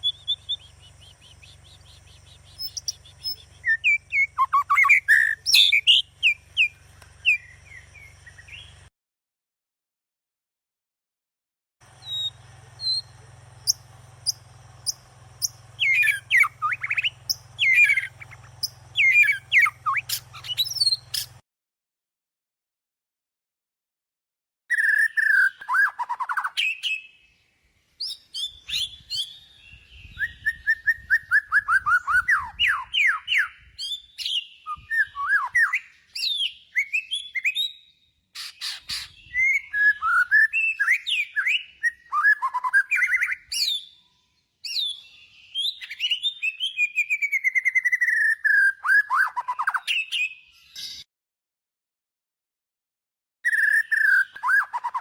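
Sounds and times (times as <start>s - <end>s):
songbird singing whistled trills: 0.0s - 8.9s, 11.9s - 21.4s, 24.7s - 27.3s, 28.0s - 51.1s, 53.4s - 55.0s.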